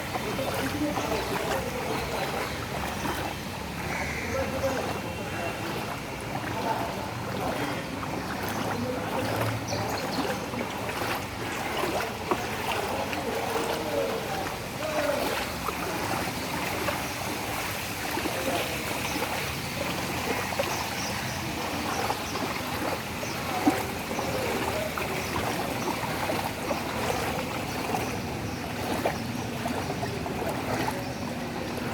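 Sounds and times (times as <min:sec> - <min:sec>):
low hum of vehicle engines: 0:00.0 - 0:31.9
tyres swishing through water: 0:00.0 - 0:31.9.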